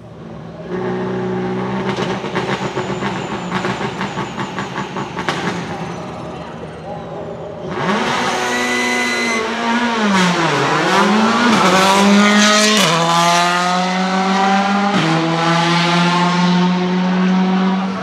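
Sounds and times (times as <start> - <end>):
rally car engine at high revs: 0.4 - 18.0.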